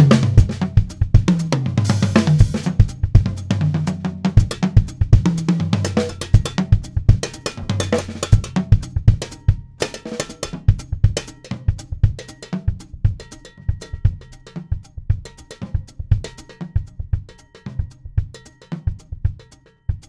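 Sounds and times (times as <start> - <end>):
melodic drum kit solo: 0.0 - 20.0.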